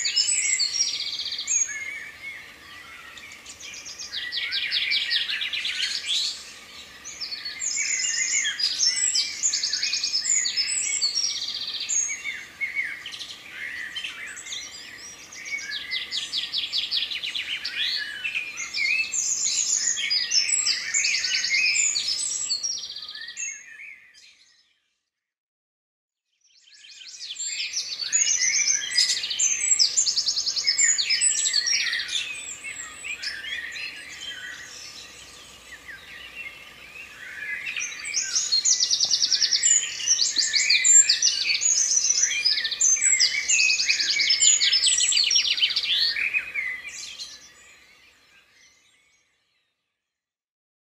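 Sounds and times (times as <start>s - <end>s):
songbirds singing: 0.0s - 24.9s, 26.3s - 50.0s.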